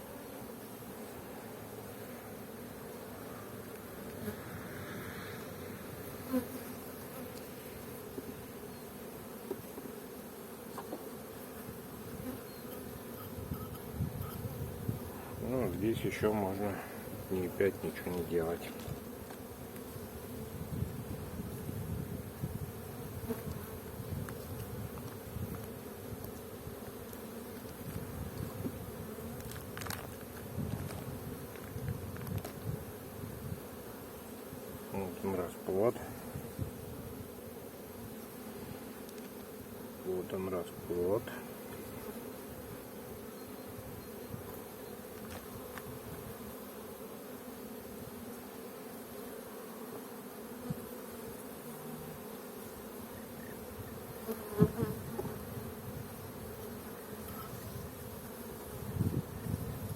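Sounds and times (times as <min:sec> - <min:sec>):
honeybees humming: 0:00.0 - 0:59.9.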